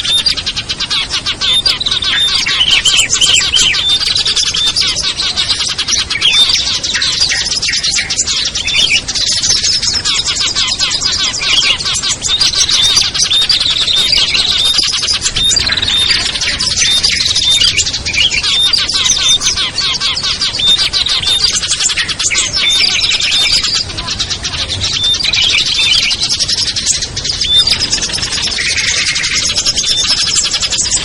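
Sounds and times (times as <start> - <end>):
songbirds chattering and twittering: 0.0 - 31.0.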